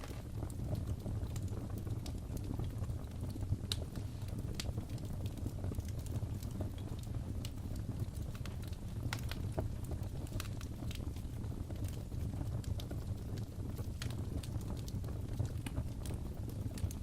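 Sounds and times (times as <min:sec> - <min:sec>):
fire pops and crackles: 0:00.0 - 0:17.0.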